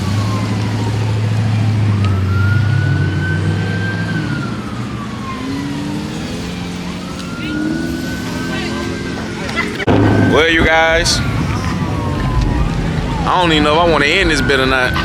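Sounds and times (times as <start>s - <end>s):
police siren wailing: 0.0s - 15.0s
vehicle engine droning: 0.0s - 15.0s.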